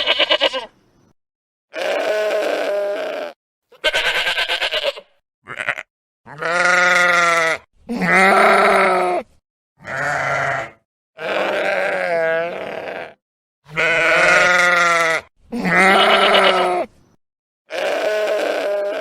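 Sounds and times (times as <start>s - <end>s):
sheep bleating: 0.0s - 0.7s, 1.7s - 9.2s, 9.8s - 16.9s, 17.7s - 19.0s.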